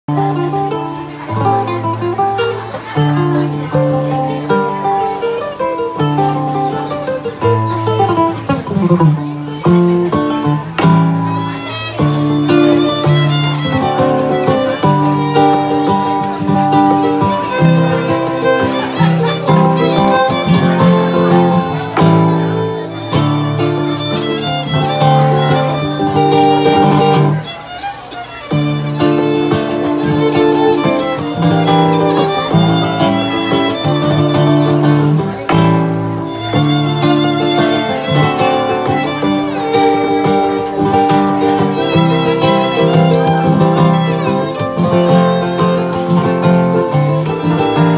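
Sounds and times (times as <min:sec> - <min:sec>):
acoustic guitar: 0:00.0 - 0:47.9
bowed violin: 0:00.2 - 0:47.9.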